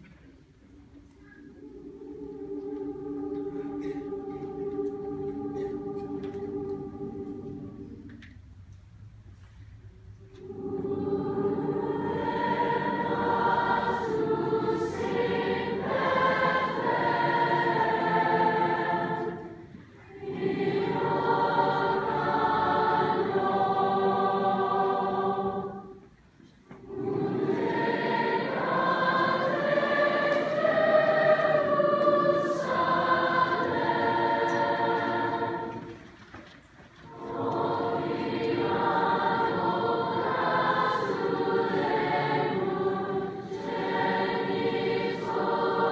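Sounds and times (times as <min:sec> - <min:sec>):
choir singing a carol: 0:00.0 - 0:08.5, 0:10.0 - 0:45.9.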